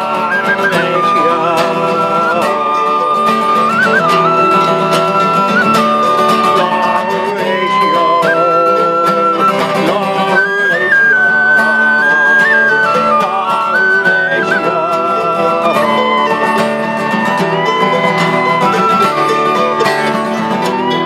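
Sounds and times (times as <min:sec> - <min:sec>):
strummed acoustic guitars: 0:00.0 - 0:21.0
tin whistle folk tune: 0:00.0 - 0:21.0.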